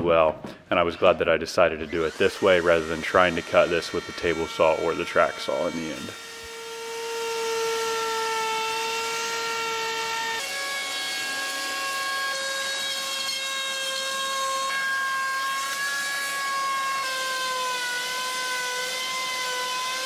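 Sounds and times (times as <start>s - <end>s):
router cutting wood: 1.7s - 20.0s.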